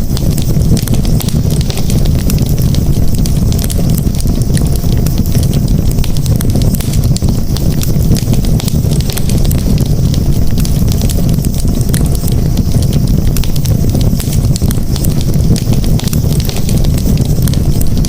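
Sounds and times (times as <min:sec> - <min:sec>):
burning wood crackling: 0:00.0 - 0:18.0
fire low rumble: 0:00.0 - 0:18.0.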